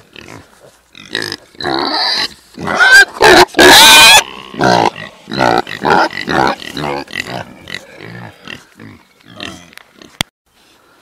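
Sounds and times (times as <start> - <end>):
pigs grunting: 0.1 - 10.2.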